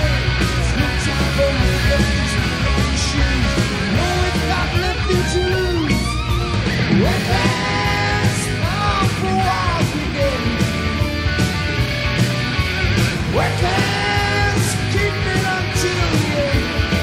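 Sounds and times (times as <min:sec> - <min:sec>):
bass: 0:00.0 - 0:17.0
electric guitar lead: 0:00.0 - 0:17.0
keyboards: 0:00.0 - 0:17.0
pounding drums and cymbals: 0:00.0 - 0:17.0.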